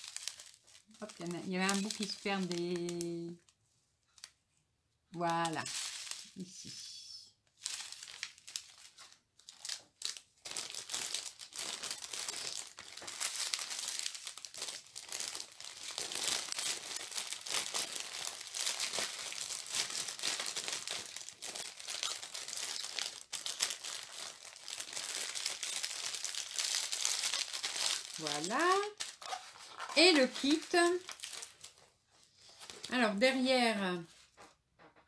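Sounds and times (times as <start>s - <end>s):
plastic packaging crinkling: 0.0s - 4.4s, 5.2s - 6.9s, 7.5s - 33.4s.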